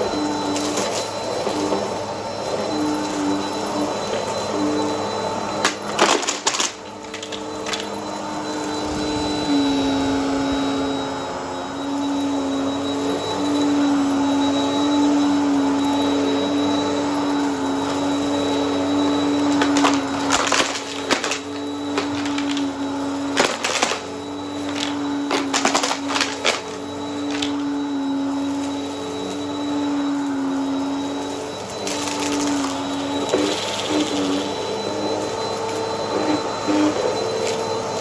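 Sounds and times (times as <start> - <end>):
vacuum cleaner motor hum: 0.0 - 38.0.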